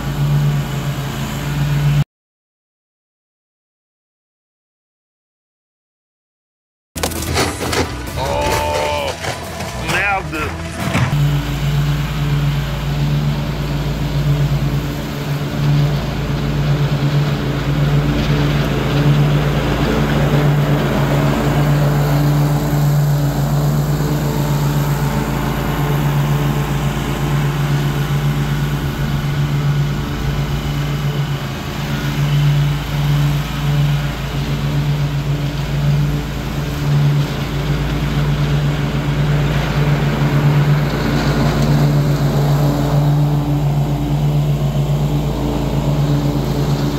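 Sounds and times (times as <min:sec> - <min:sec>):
lawn mower engine running: 0:00.0 - 0:02.0, 0:07.0 - 0:46.9.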